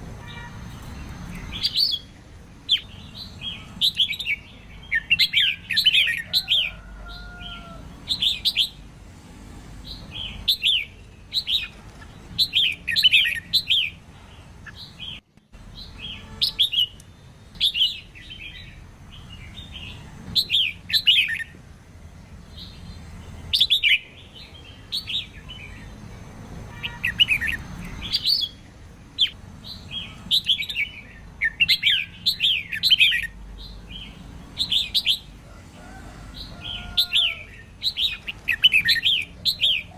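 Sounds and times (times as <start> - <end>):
bulbul chirping song: 0.0 - 8.9, 9.9 - 21.6, 22.3 - 35.4, 36.4 - 39.9.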